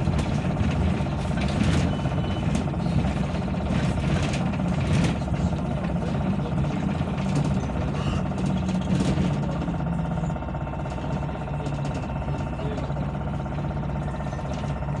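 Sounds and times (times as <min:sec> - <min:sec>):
rolling wheel noise: 0:00.0 - 0:15.0
trolleybus electric drive hum: 0:00.0 - 0:15.0.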